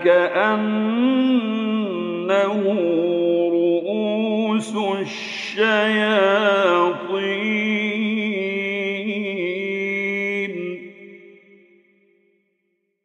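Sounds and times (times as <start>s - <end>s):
man chanting melodically: 0.0s - 10.9s.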